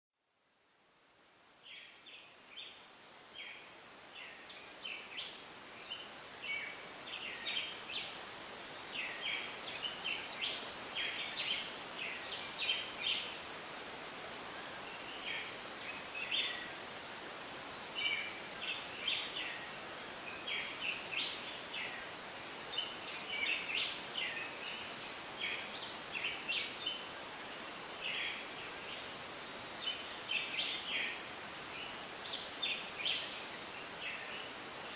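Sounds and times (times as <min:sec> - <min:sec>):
soft steady hiss: 0:00.2 - 0:34.9.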